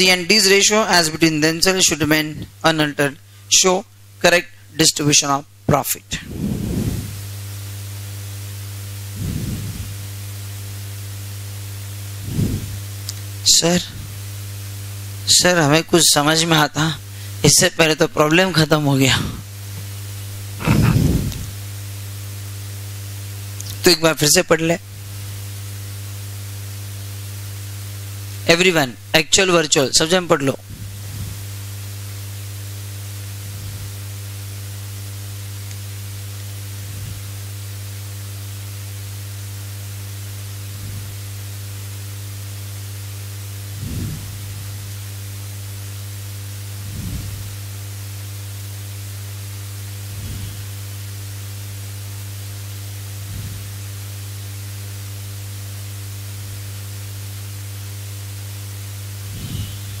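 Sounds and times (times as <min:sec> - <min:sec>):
electrical mains hum: 0:00.0 - 1:00.0
microphone hiss: 0:00.0 - 1:00.0.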